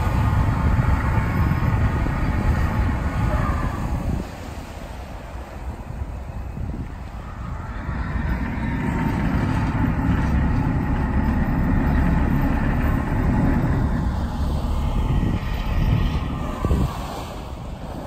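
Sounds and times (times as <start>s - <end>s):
boat engine low rumble: 0.0s - 18.0s.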